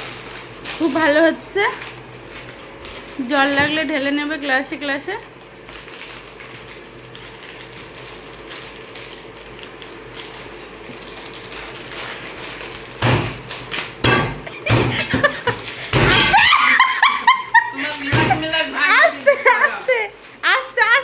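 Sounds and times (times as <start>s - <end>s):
plastic wrappers crinkling: 0.0s - 21.0s.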